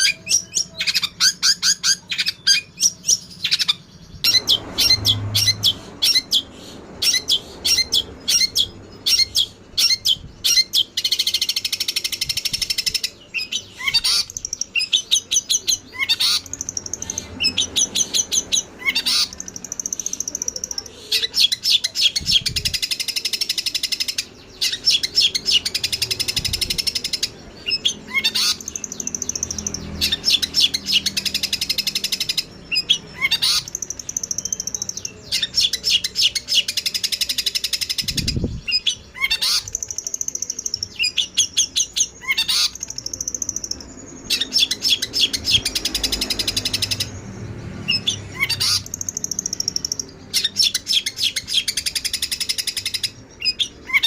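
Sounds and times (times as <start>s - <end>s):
sparrows chattering: 0.0s - 54.0s.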